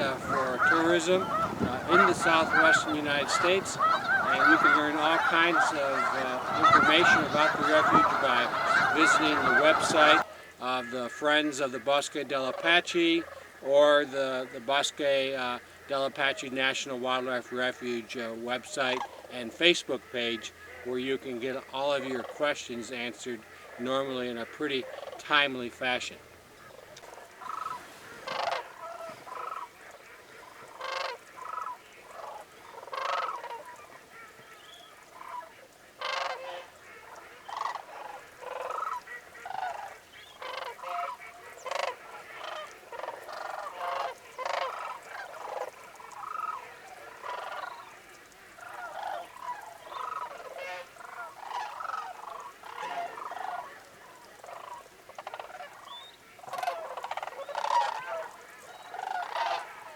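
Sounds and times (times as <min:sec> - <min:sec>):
cranes trumpeting calls: 0:00.0 - 0:25.5, 0:26.2 - 0:59.9.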